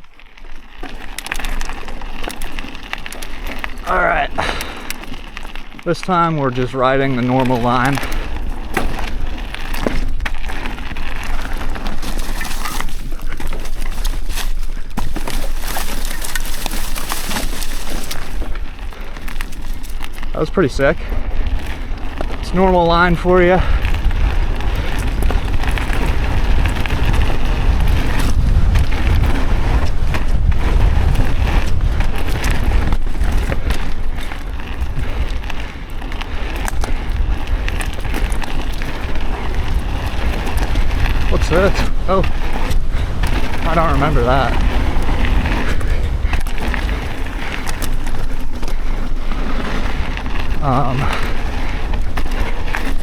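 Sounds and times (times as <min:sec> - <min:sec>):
bike clattering over bumps: 0:00.0 - 0:53.0
tyres crunching over dirt and stones: 0:00.0 - 0:53.0
wind rushing over microphone: 0:06.3 - 0:53.0.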